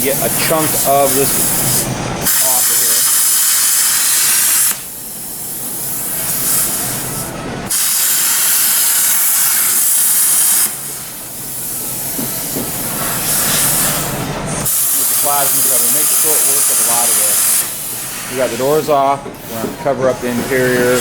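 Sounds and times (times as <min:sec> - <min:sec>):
plasma cutter hissing: 0:00.0 - 0:19.0.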